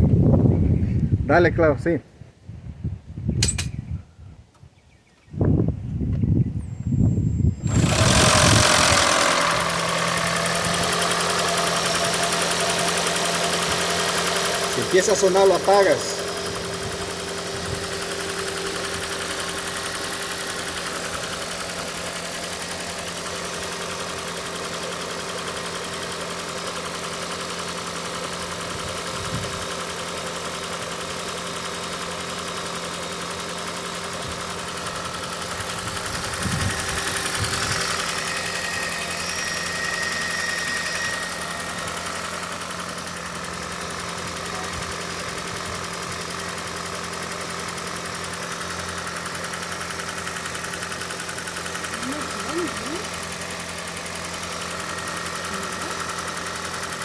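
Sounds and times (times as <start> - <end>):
car engine running: 6.3 - 57.0.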